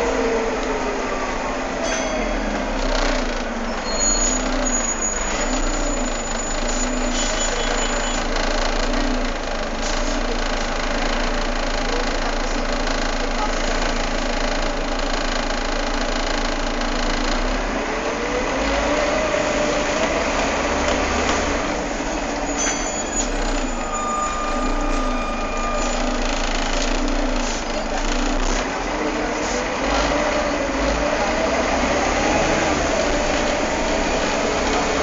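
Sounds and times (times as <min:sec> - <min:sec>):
bus diesel engine running: 0:00.0 - 0:35.0.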